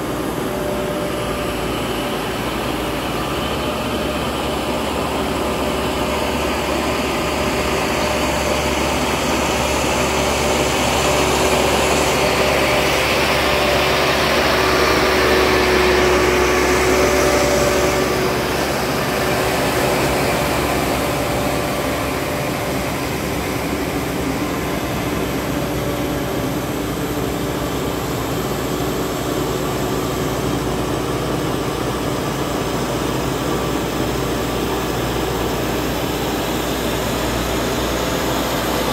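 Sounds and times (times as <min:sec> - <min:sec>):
diesel tractor engines droning: 0:00.0 - 0:38.9.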